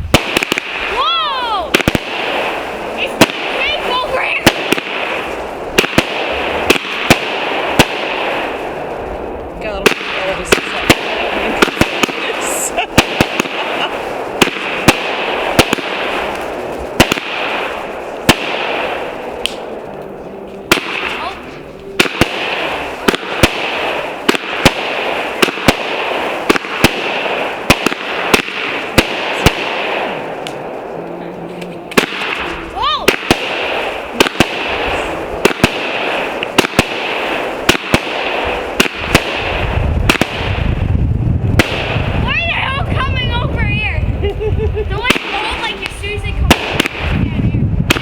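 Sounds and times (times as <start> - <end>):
fireworks bangs: 0.0 - 48.0
fireworks crackling: 0.0 - 48.0.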